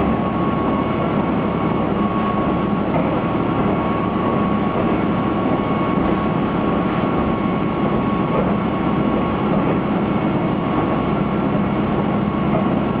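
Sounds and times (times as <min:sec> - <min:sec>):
railcar engine and wheels rumbling: 0:00.0 - 0:13.0.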